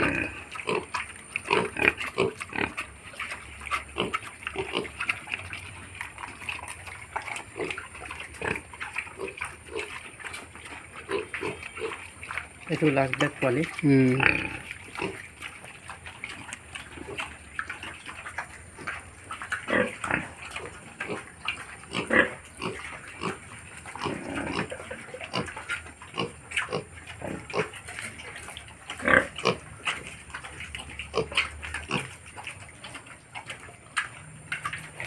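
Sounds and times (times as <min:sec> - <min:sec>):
pigs grunting: 0:00.0 - 0:35.0.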